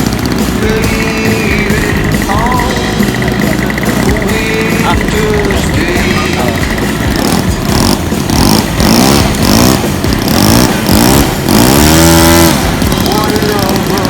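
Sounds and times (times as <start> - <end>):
model airplane engine revving: 0.0 - 14.0.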